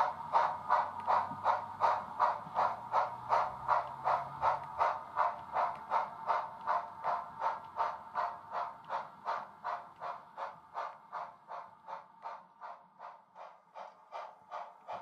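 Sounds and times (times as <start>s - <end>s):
synthesised steam locomotive chuffing: 0.0s - 15.0s.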